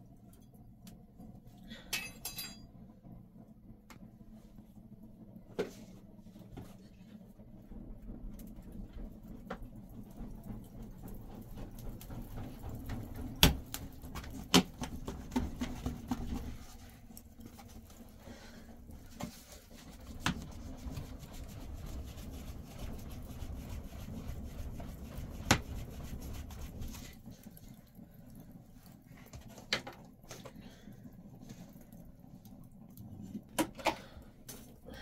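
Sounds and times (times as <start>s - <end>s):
low whooshing of fanned air: 0.0s - 35.0s.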